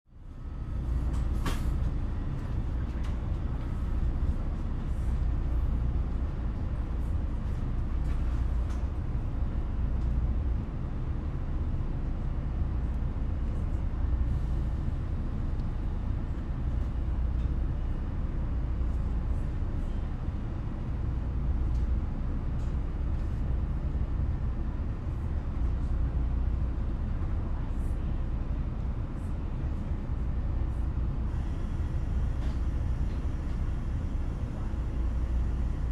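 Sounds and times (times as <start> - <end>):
stationary train low rumble: 0.1 - 35.9.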